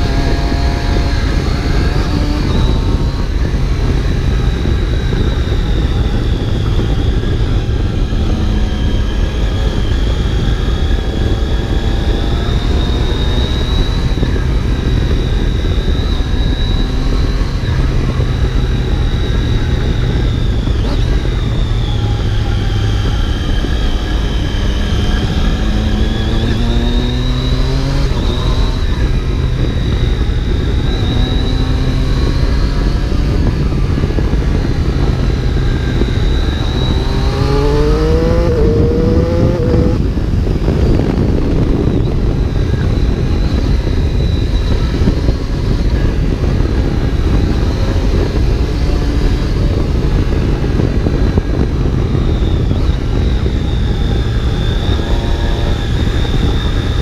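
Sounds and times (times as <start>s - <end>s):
motorcycle engine revving: 0.0s - 57.0s
wind rushing: 0.0s - 57.0s.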